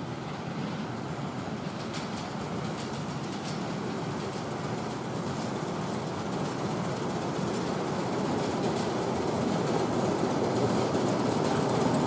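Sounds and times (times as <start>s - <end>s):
train rumble: 0.0s - 12.0s
wheels clicking over track: 1.5s - 12.0s.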